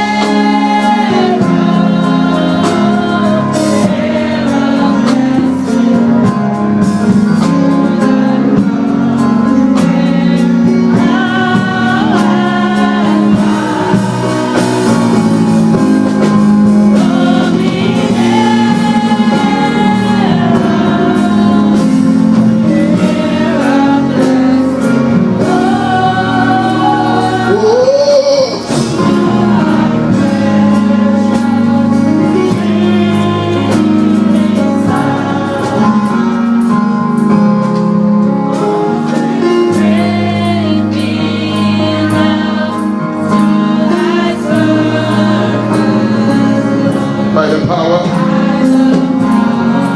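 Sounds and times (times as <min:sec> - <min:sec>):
gospel choir singing: 0:00.0 - 0:49.9
instrumental chords: 0:00.0 - 0:49.9.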